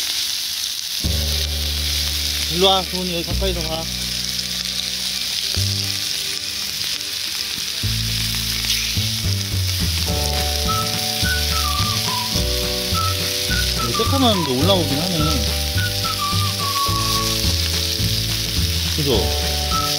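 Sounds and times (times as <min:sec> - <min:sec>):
pork sizzling on hot iron: 0:00.0 - 0:19.9.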